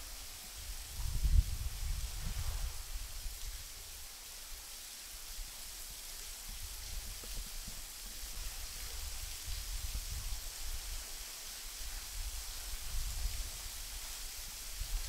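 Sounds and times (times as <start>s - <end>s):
wind rumble on microphone: 0.0s - 4.0s, 6.4s - 15.0s.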